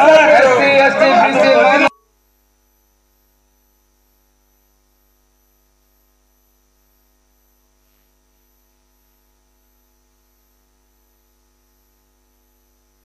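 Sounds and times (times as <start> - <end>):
faint electrical hum: 2.0 - 13.0.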